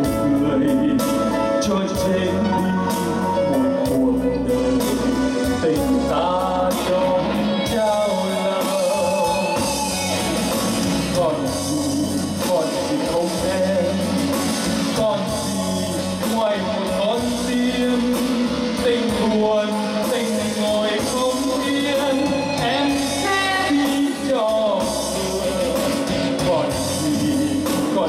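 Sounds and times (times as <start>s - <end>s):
electronic keyboard with backing rhythm: 0.0s - 28.0s
man singing into microphone: 0.0s - 28.0s.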